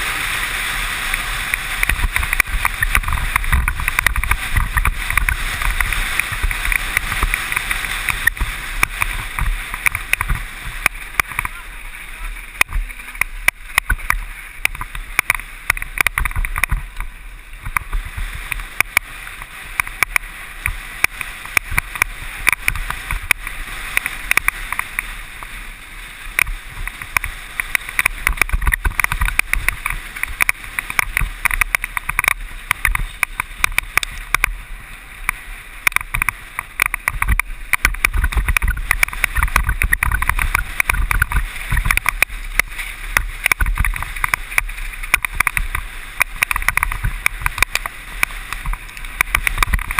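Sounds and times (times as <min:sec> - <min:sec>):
mountain bike rattling: 0:00.0 - 0:49.9.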